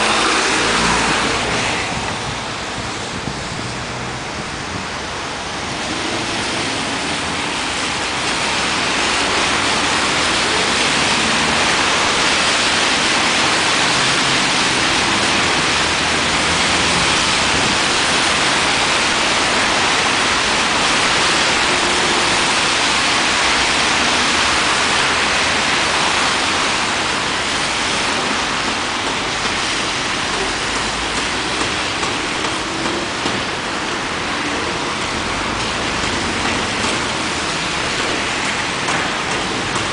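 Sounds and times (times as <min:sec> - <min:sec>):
traffic hiss on wet road: 0:00.0 - 0:39.9.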